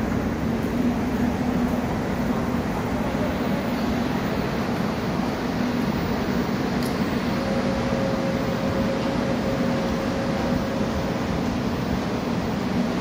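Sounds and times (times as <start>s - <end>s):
thin steady whine: 0.0s - 13.0s
train equipment humming: 0.0s - 13.0s.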